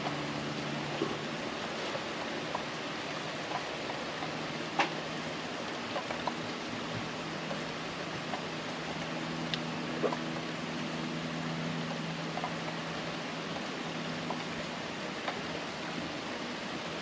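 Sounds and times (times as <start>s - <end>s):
rain hissing: 0.0s - 17.0s
raindrops ticking close by: 0.0s - 17.0s.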